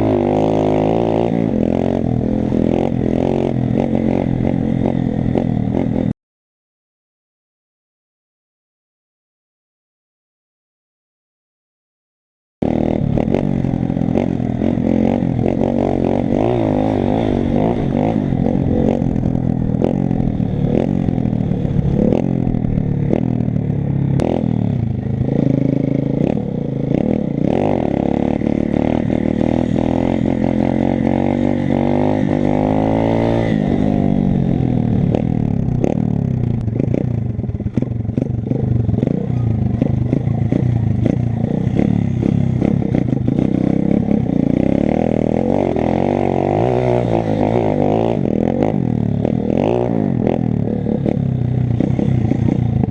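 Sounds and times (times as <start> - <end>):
motorbike engine revving: 0.0 - 6.1, 12.6 - 52.9.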